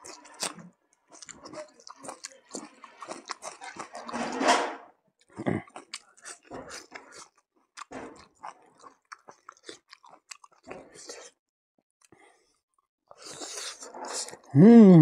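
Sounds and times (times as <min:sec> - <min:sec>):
man chewing food: 0:00.0 - 0:04.2, 0:05.2 - 0:11.4, 0:12.0 - 0:14.5.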